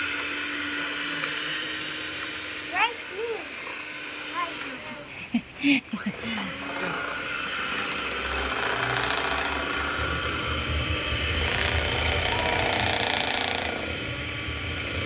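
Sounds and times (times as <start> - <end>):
electric hand mixer running: 0.0 - 15.0.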